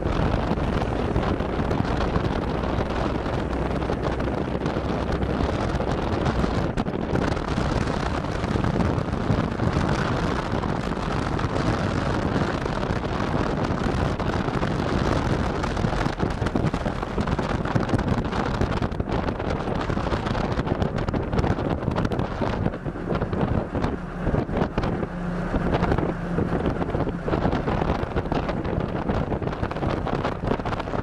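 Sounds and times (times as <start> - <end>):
jeep engine: 0.0 - 31.0
road noise: 0.0 - 31.0
wind rush on microphone: 0.0 - 31.0.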